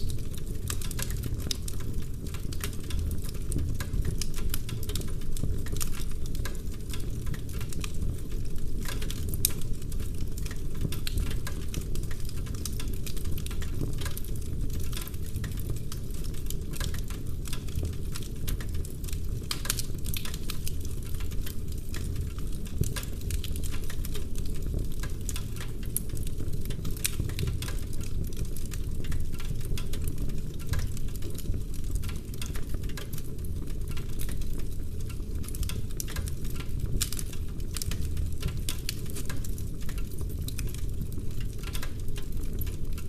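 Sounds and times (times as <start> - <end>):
wood fire crackling and popping: 0.0 - 43.0
low rumble of flames: 0.1 - 43.0.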